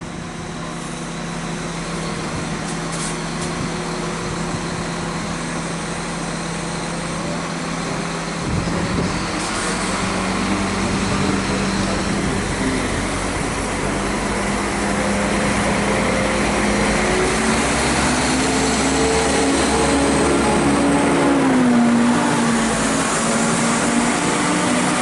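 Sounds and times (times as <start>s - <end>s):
diesel train engine running: 0.0s - 25.0s.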